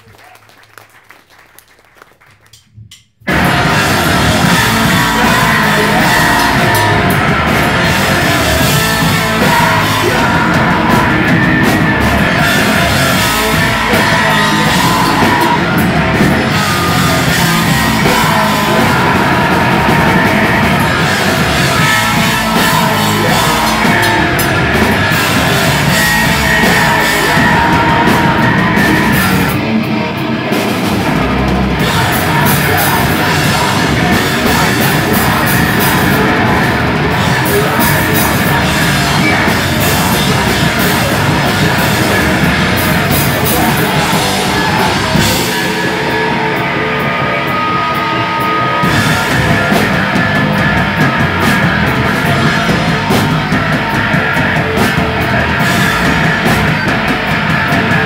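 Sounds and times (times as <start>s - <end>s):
rock band playing live: 3.2s - 58.0s.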